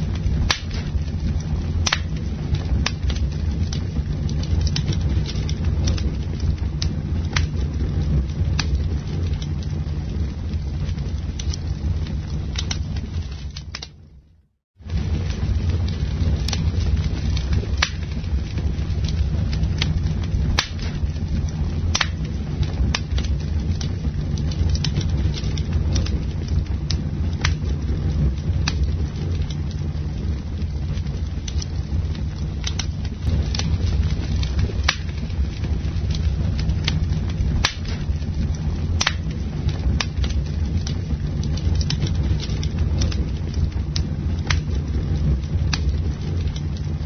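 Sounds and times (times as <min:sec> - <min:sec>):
fire popping and snapping: 0:00.0 - 0:47.0
steady low rumble: 0:00.0 - 0:47.0
wood fire crackling: 0:00.0 - 0:47.0.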